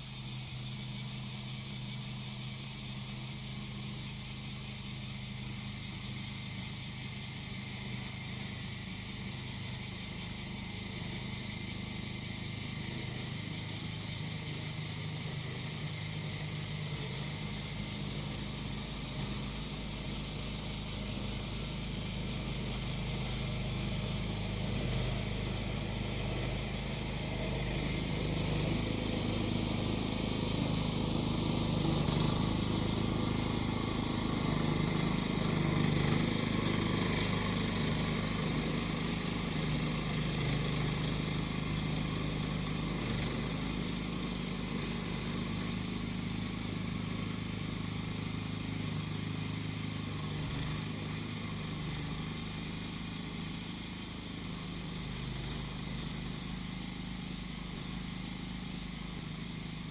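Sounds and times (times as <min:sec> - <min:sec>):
cicadas buzzing: 0:00.0 - 0:59.9
grass cutter engine running: 0:00.0 - 0:59.9.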